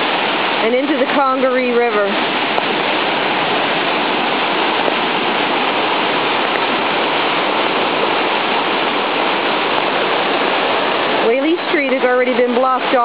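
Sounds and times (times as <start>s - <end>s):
flooded creek rushing: 0.0s - 13.0s.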